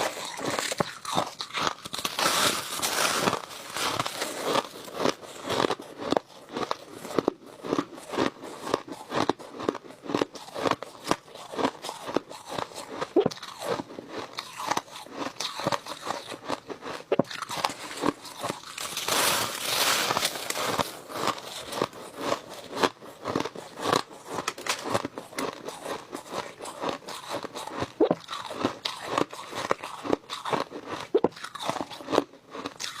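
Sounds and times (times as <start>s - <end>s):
crunching ice being chewed: 0.0s - 33.0s.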